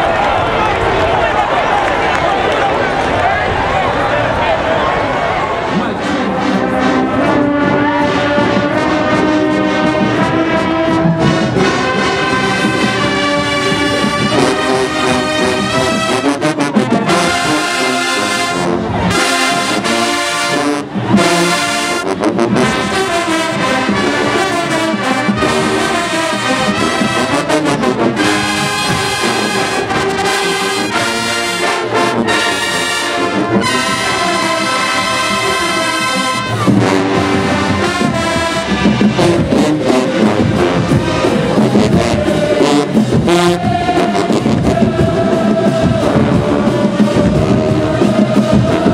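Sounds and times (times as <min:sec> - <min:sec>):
marching band playing loudly: 0:03.2 - 0:48.9.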